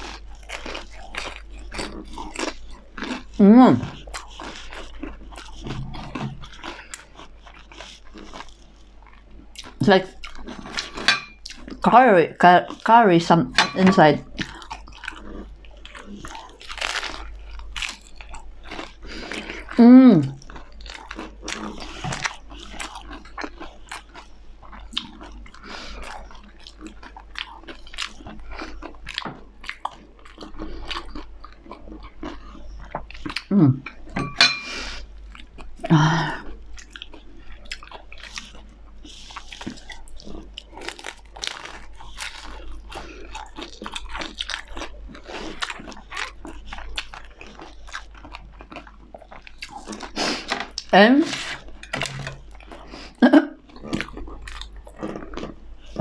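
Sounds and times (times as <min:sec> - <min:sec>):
crunching and chewing food: 0:00.0 - 0:56.0.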